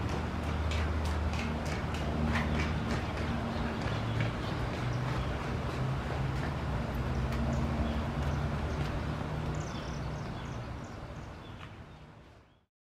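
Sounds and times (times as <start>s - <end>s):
birds chirping: 0.0s - 12.7s.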